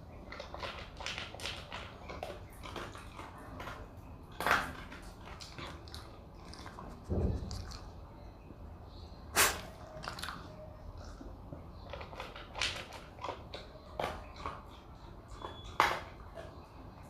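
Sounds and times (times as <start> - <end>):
dog crunching dry kibble: 0.0 - 8.0, 9.4 - 17.0.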